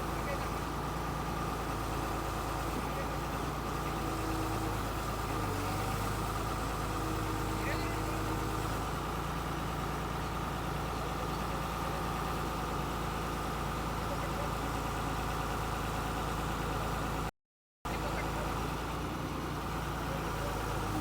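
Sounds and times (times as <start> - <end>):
excavator diesel engine running: 0.0 - 17.3, 17.9 - 21.0.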